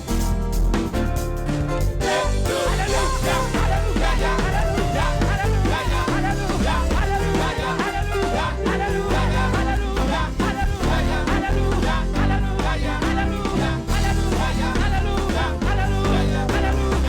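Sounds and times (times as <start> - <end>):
heavy bass: 0.0 - 17.0
steady drum beat: 0.0 - 17.0
worship band music: 0.0 - 17.0.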